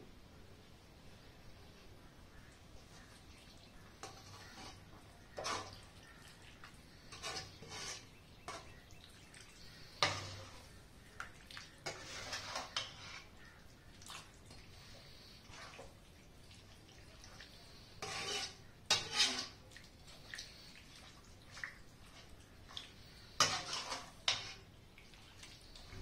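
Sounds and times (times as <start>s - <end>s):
wet sloshing in a pot: 2.8s - 26.0s.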